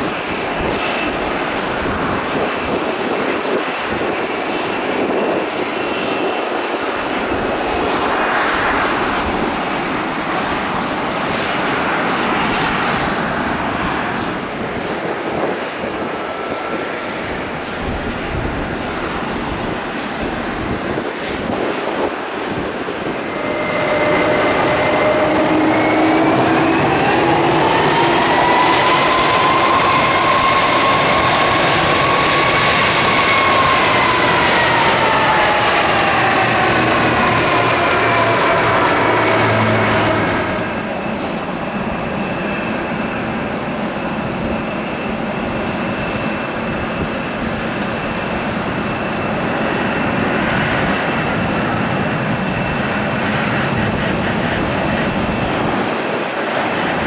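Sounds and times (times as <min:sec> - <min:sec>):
distant jet engine steady whine: 0:00.0 - 0:57.0
jet engines whining: 0:00.0 - 0:57.0.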